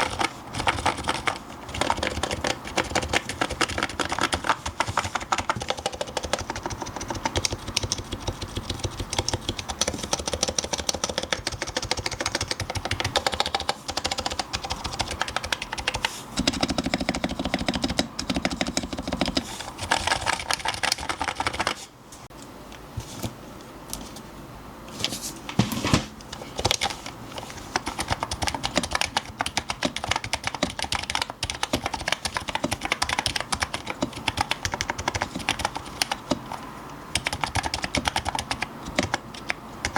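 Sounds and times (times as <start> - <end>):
fast keyboard typing: 0.0 - 21.8, 26.5 - 39.9.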